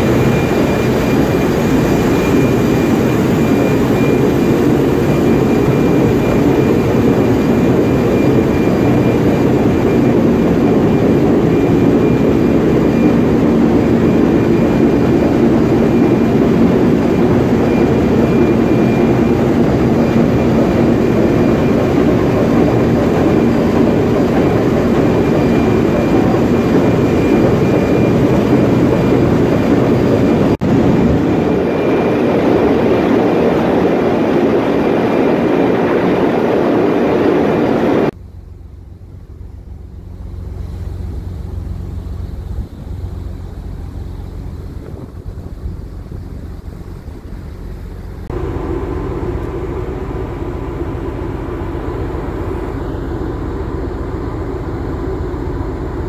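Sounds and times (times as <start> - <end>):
faint high whine: 0.0 - 56.0
ship engine running: 0.0 - 56.0.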